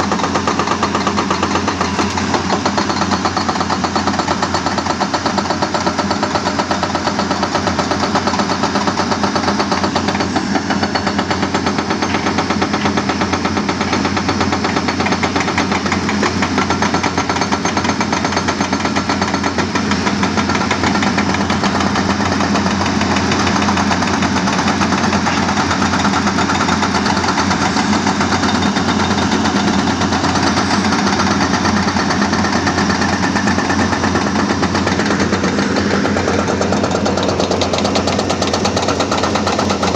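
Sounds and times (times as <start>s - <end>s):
diesel engine running: 0.0s - 39.9s
hydraulic breaker hammering rock: 0.0s - 39.9s.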